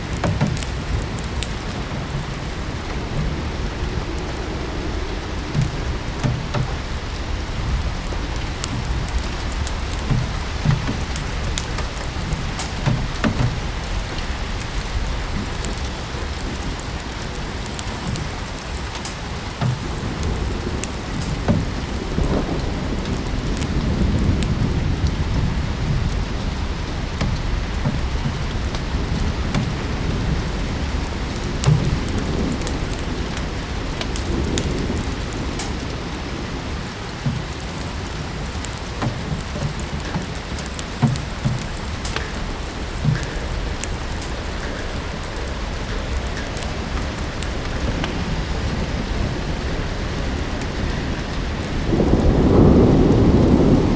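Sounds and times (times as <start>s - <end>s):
steady rain: 0.0s - 53.9s
wood fire crackling and popping: 0.0s - 53.9s.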